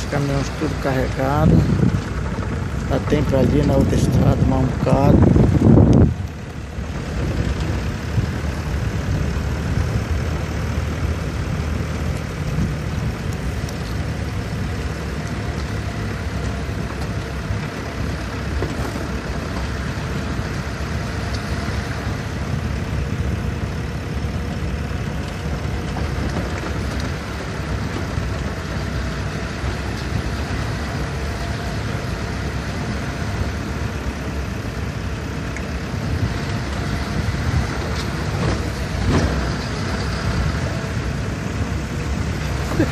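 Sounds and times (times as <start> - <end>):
road noise on dirt road: 0.0 - 42.9
vehicle engine drone: 0.0 - 42.9.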